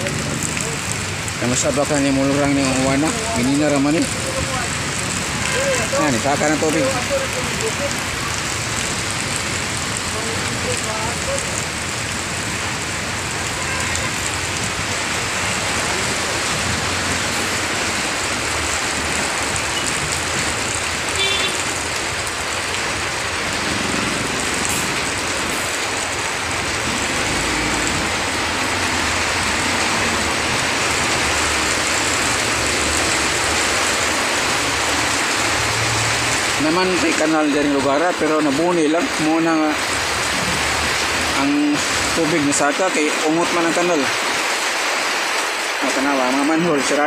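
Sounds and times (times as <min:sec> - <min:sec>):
heavy rain on street: 0:00.0 - 0:47.0
vehicles splashing on wet road: 0:00.0 - 0:47.0.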